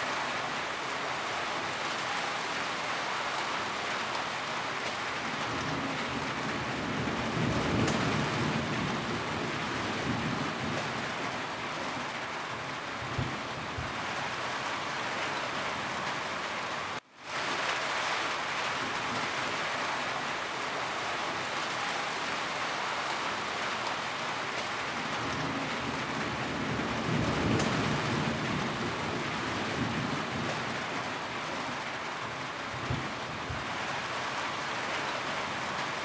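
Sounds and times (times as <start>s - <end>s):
rain falling on a roof: 0.0s - 36.0s.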